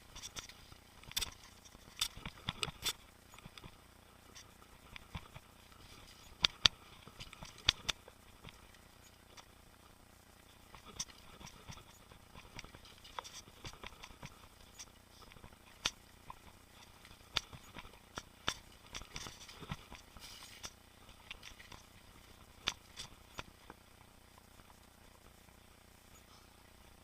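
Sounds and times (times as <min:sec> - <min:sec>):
mountain bike clicking and rattling: 0:00.0 - 0:09.8, 0:10.4 - 0:25.4
faint steady background noise: 0:00.0 - 0:27.0.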